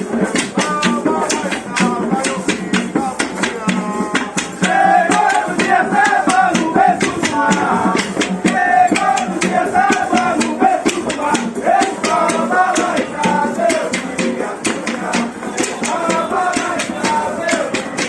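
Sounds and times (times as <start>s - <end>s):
hand percussion beat: 0.0s - 18.0s
voices singing: 0.0s - 18.0s.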